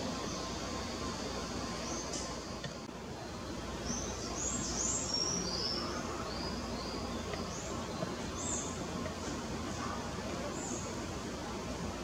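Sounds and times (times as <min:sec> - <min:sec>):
small birds chirping: 0:00.0 - 0:12.0
steady background noise: 0:00.0 - 0:12.0.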